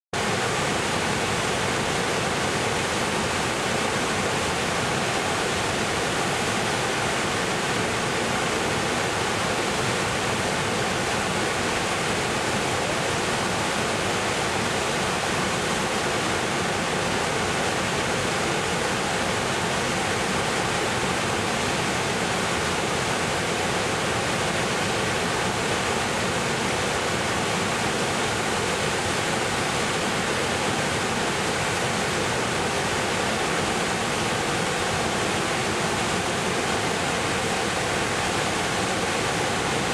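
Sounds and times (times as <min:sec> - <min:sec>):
waterfall rushing: 0:00.2 - 0:39.9.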